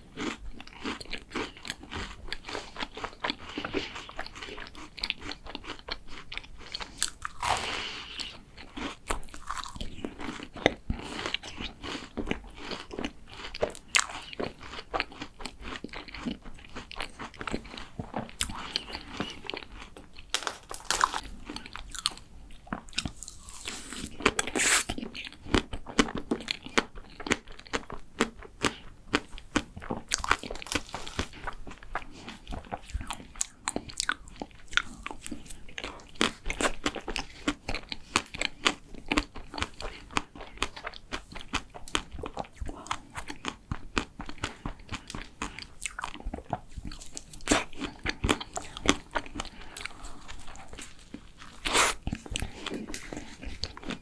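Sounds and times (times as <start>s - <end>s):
crunchy chewing of macaron: 0.0s - 54.0s.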